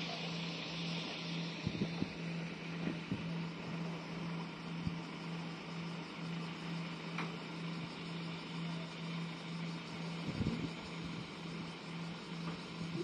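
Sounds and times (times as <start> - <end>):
faint outdoor hiss: 0.0 - 13.0
steady low hum: 0.0 - 13.0.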